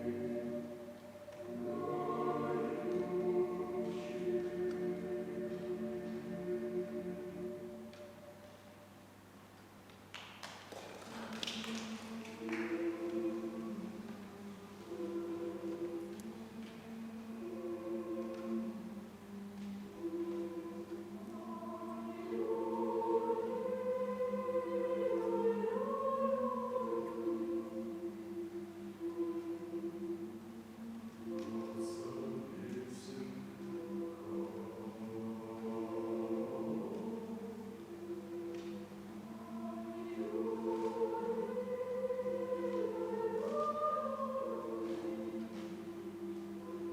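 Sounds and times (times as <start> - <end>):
choir singing held chords: 0.0 - 9.2, 11.3 - 46.9.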